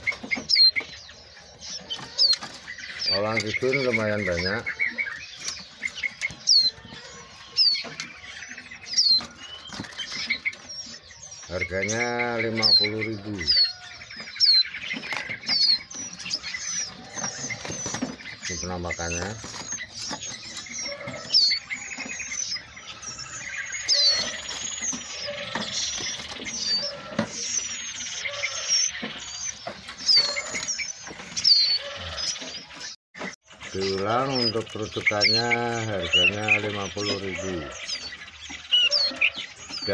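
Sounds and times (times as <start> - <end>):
caged songbirds chirping: 0.0 - 39.9
clicks and rustles from cages: 0.0 - 39.9.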